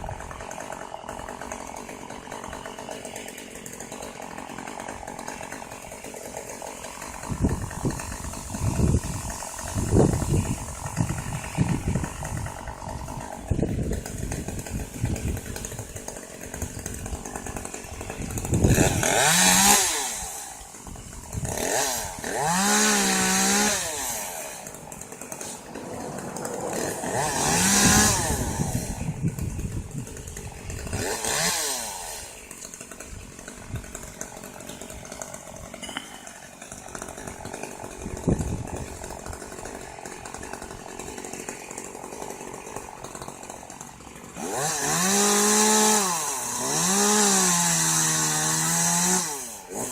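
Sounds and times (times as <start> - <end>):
chainsaw revving: 0.0 - 49.9.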